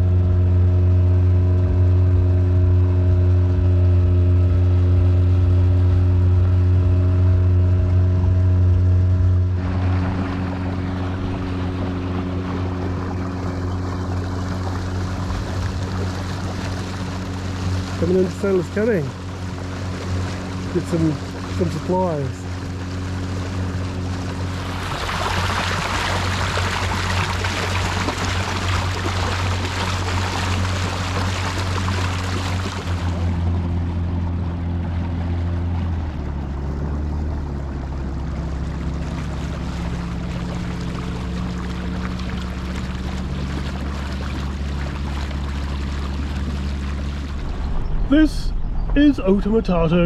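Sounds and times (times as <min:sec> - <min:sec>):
boat motor running: 0:00.0 - 0:50.0
water rushing: 0:08.4 - 0:50.0.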